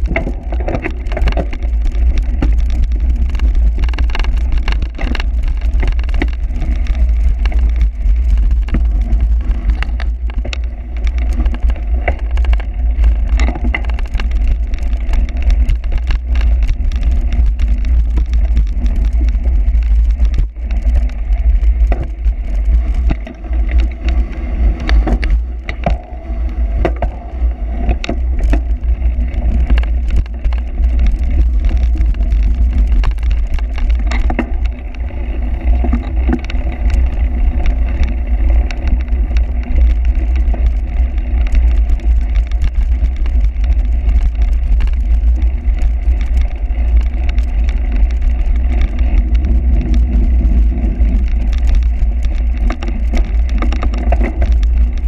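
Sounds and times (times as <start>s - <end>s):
bike rattling over rough ground: 0.0s - 55.0s.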